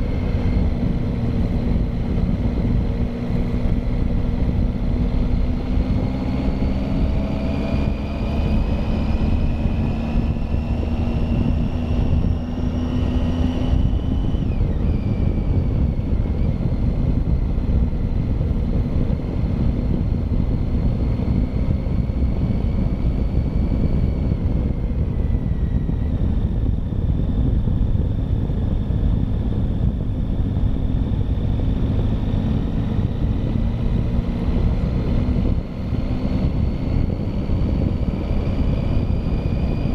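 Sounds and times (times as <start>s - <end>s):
motorcycle engine revving: 0.0s - 39.9s
wind on microphone: 0.0s - 39.9s.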